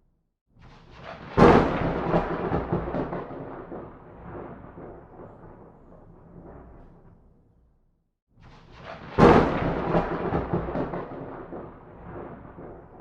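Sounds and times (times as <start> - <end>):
thunderclap: 0.6 - 7.4, 8.5 - 13.0.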